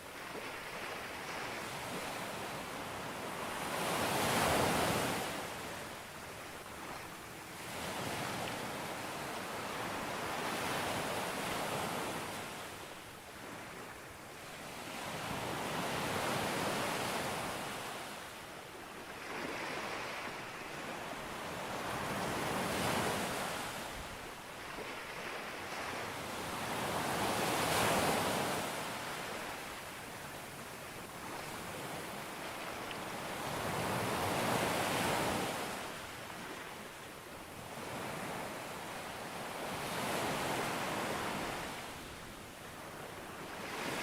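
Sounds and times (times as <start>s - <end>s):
ocean waves breaking on beach: 0.0s - 44.0s.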